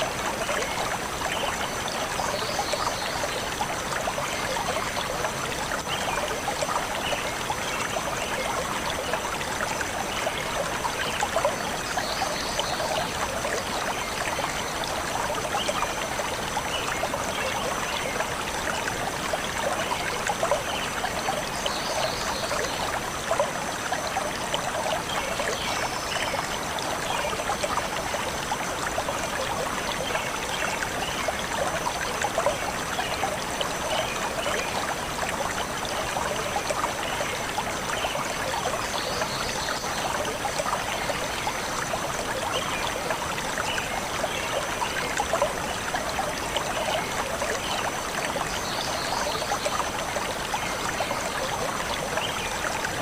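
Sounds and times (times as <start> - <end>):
stream water trickling over stones: 0.0 - 53.0.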